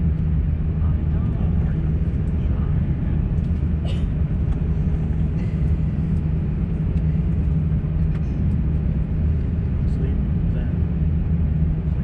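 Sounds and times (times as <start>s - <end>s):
aircraft cabin low rumble: 0.0s - 12.0s.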